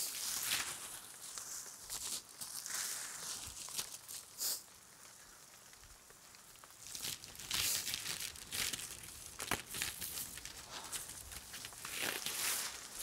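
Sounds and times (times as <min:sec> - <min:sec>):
plastic film crinkling: 0:00.0 - 0:04.4, 0:05.6 - 0:13.0.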